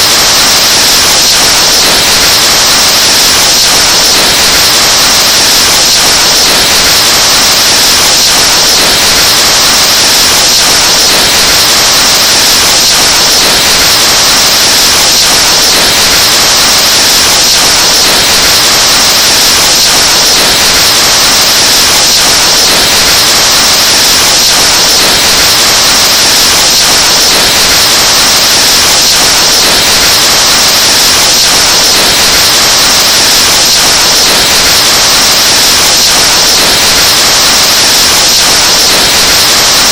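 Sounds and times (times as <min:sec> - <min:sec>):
harsh distorted microphone hiss: 0:00.0 - 0:39.9.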